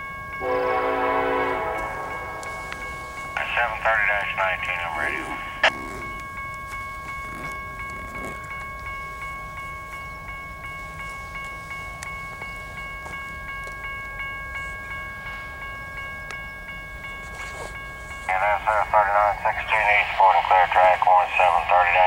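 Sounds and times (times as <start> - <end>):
level-crossing warning bell: 0.0 - 22.0.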